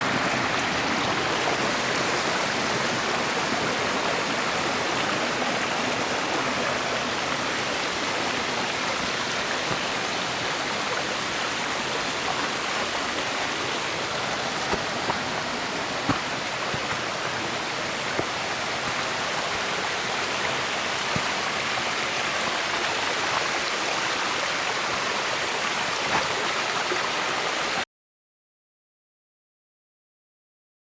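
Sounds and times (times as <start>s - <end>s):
stream water rushing over rock: 0.0s - 27.8s.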